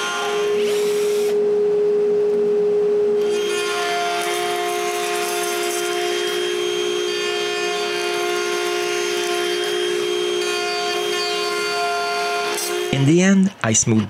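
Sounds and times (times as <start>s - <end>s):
router bit cutting wood: 0.0s - 1.4s, 3.2s - 13.2s
router table high whine: 0.0s - 1.8s, 3.1s - 13.2s.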